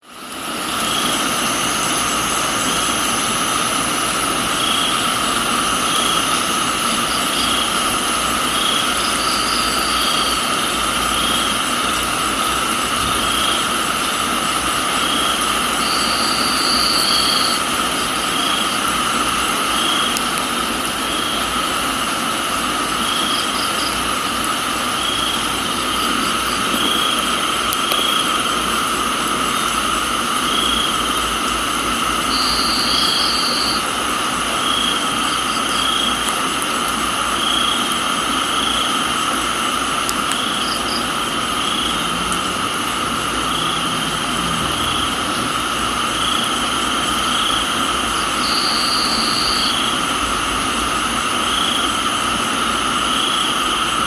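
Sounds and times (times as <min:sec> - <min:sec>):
rain hiss: 0:00.0 - 0:54.0
crickets trilling: 0:00.1 - 0:54.0.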